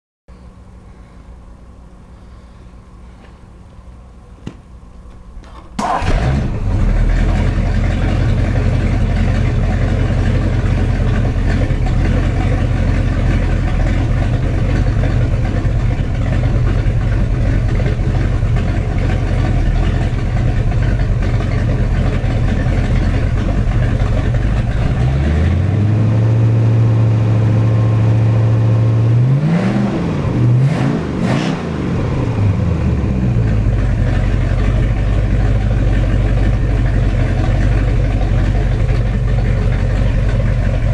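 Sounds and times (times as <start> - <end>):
boat engine idling and revving: 6.0 - 40.9.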